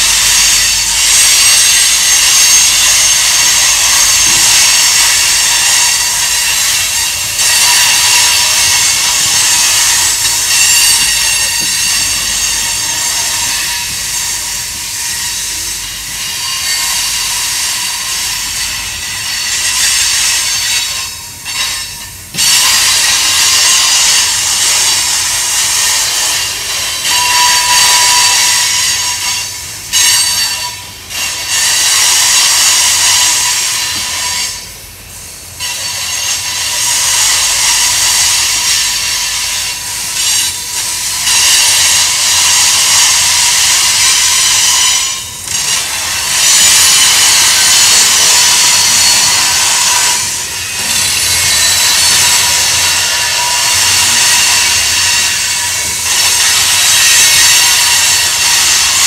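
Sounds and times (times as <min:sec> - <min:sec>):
steel wheels squealing on rail: 0:00.0 - 0:59.0.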